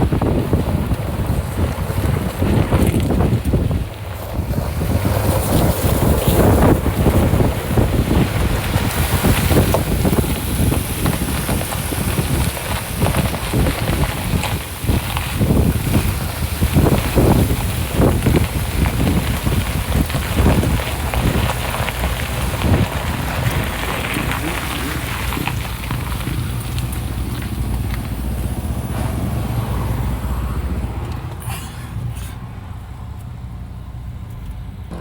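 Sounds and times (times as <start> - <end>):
wind buffeting microphone: 0.0 - 31.4
vehicle rumble off-road: 0.0 - 35.0.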